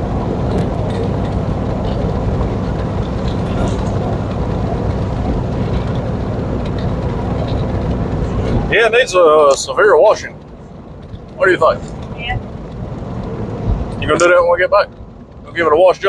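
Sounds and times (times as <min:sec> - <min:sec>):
car engine cruising: 0:00.0 - 0:16.0
tyre road noise: 0:00.0 - 0:16.0.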